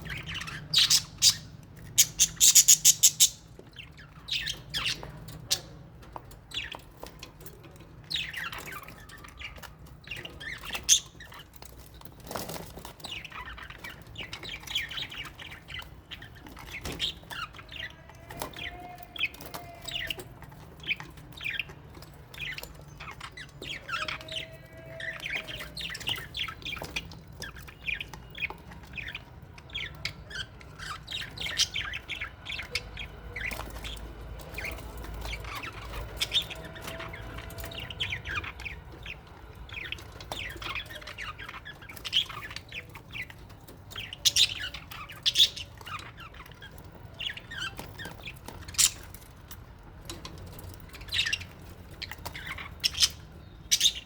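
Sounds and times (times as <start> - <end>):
small parrots chirping: 0.0 - 5.7, 8.1 - 49.2, 50.9 - 54.0.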